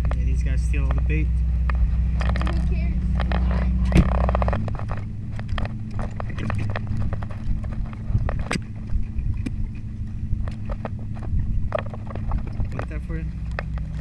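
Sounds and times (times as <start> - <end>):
boat machinery humming: 0.0 - 14.0
gear clicking and knocking: 0.0 - 14.0.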